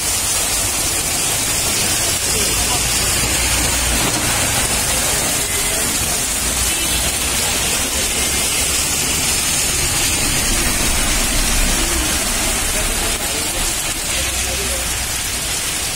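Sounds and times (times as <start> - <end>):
heavy rain: 0.0 - 15.9
traffic on wet road: 0.0 - 15.9.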